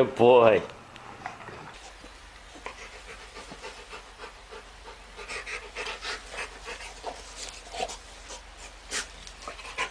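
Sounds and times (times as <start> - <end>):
dog panting: 1.2 - 9.9.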